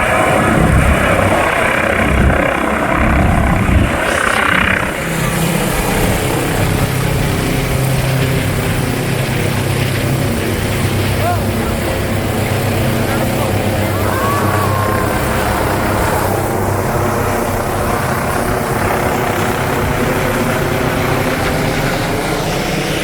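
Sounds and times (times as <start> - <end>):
helicopter rotor and turbine: 0.0 - 23.0
steady low drone: 0.0 - 23.0.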